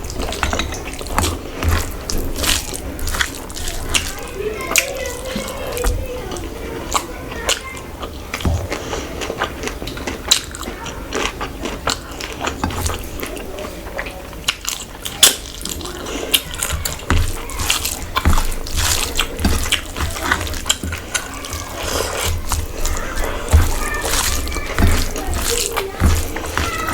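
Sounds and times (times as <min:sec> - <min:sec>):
wet chewing and smacking: 0:00.0 - 0:26.9.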